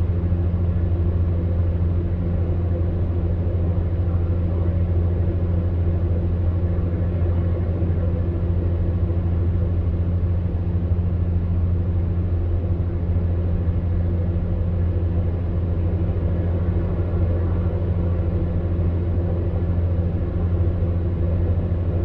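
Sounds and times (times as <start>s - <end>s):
fan heater motor humming: 0.0s - 22.0s
higher electrical hum: 0.0s - 22.0s.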